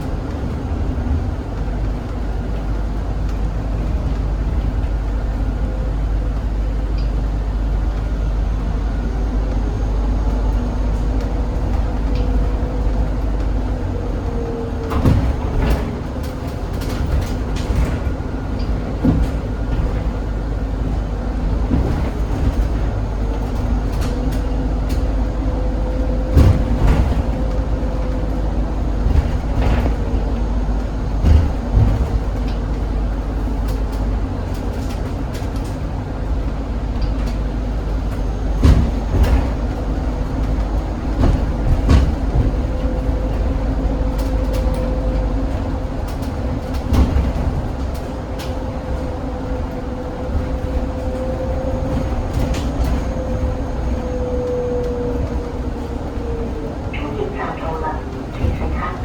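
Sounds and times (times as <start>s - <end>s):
bus engine rumble: 0.0s - 59.0s
knocks and rattles from bus body: 0.0s - 59.0s.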